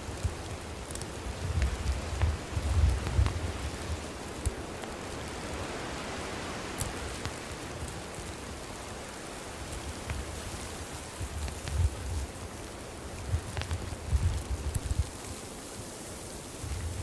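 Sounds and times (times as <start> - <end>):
campfire hissing: 0.0 - 17.0
wood crackling and popping: 0.0 - 17.0.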